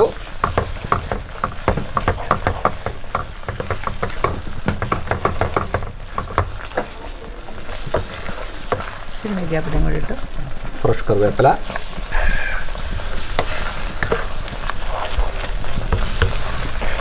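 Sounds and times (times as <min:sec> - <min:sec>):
sauce sizzling in oil: 0:00.0 - 0:17.0
spatula scraping a pan: 0:00.0 - 0:17.0.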